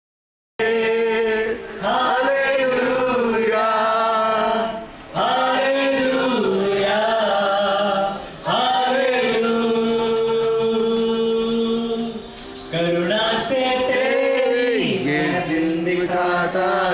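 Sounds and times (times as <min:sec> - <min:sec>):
man singing into a microphone: 0:00.6 - 0:16.9.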